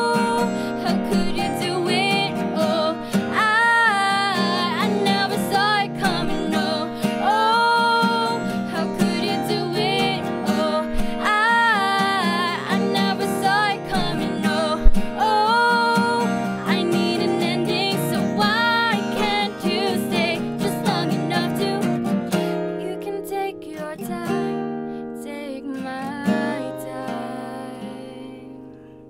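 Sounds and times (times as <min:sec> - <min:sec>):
strummed acoustic guitars: 0:00.0 - 0:29.0
woman singing: 0:00.0 - 0:29.0.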